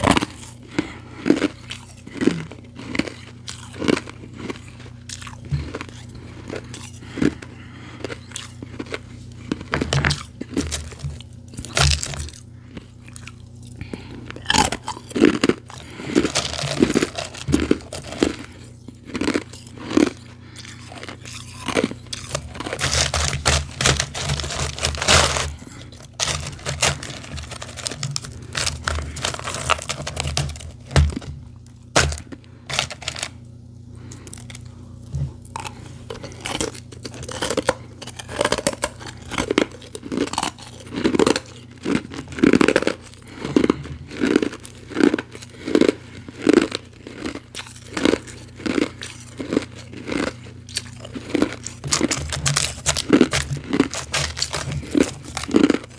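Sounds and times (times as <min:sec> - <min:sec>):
ice being crunched and chewed: 0:00.0 - 0:55.9.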